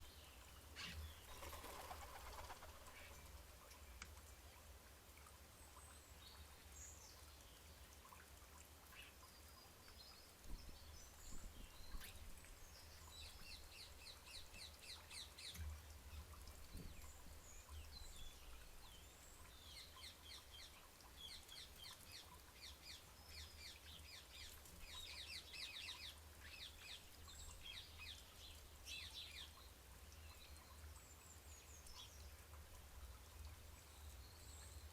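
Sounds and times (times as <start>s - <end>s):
small birds chirping: 0.0s - 4.7s, 8.9s - 34.9s.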